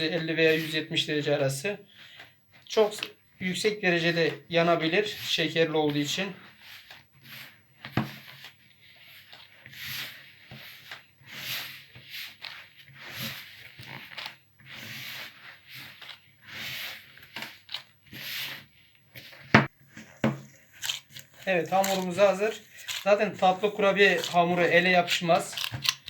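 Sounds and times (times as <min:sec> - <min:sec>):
hands kneading dough: 0:00.0 - 0:26.0.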